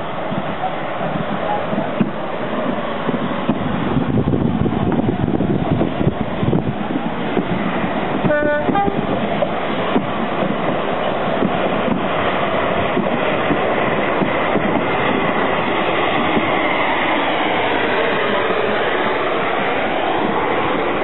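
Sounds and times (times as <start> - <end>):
train running on rails: 0.0 - 21.0.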